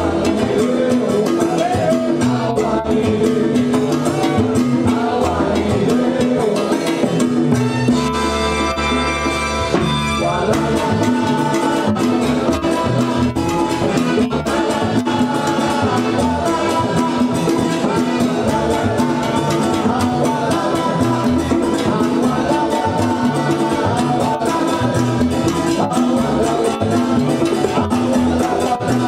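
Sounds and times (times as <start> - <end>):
congas: 0.0 - 29.0
salsa band playing: 0.0 - 29.0.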